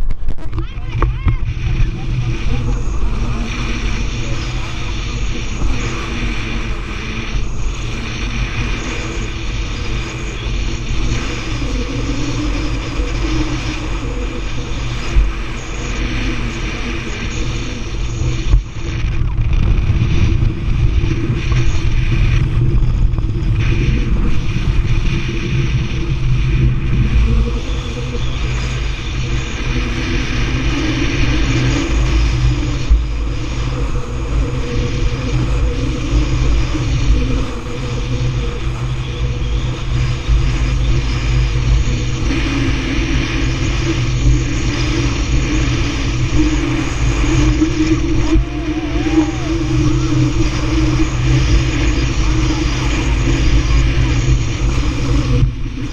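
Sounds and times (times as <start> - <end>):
motorboat engine droning: 0.0 - 55.9
water rushing: 0.5 - 39.3, 39.9 - 55.7.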